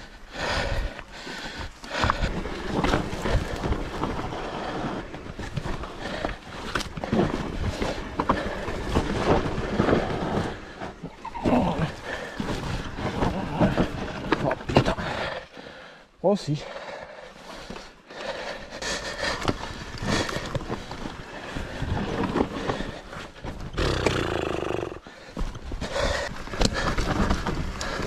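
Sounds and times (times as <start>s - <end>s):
mountain bike rattling over rocks: 0.4s - 15.4s, 18.7s - 28.0s.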